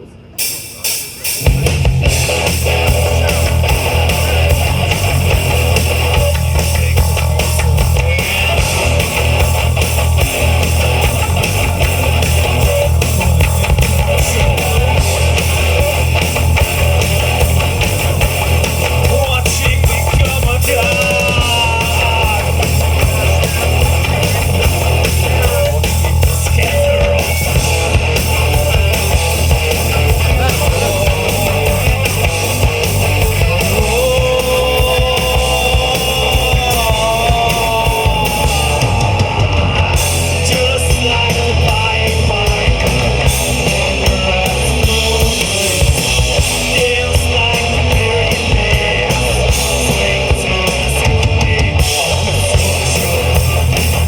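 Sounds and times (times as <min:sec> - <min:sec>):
drums: 0:00.0 - 0:54.0
rock band playing: 0:00.0 - 0:54.0
bass guitar: 0:01.2 - 0:54.0
electric guitars: 0:01.3 - 0:54.0.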